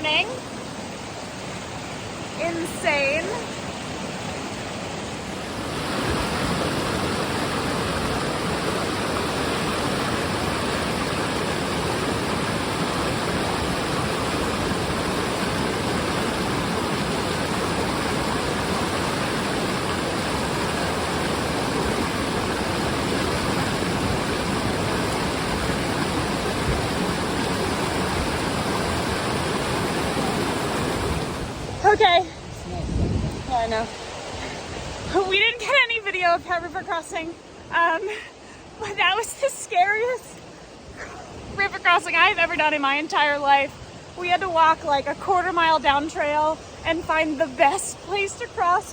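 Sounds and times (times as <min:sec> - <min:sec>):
mountain river rushing: 0:00.0 - 0:48.9.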